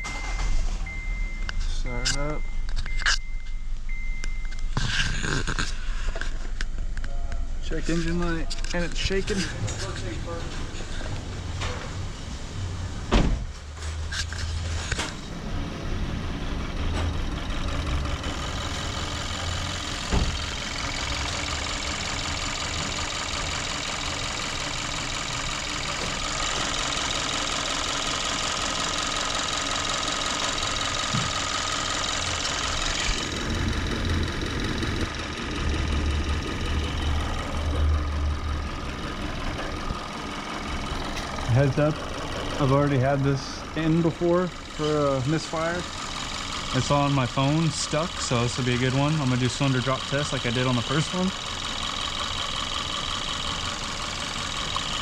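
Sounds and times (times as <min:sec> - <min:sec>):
car engine idling rough with misfire: 0:00.0 - 0:55.0.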